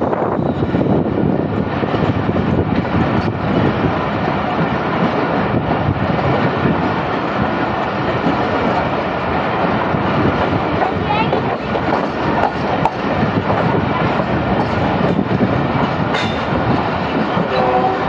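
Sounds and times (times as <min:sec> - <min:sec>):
rushing air: 0:00.0 - 0:18.0
train wheels rumbling on rails: 0:00.0 - 0:18.0.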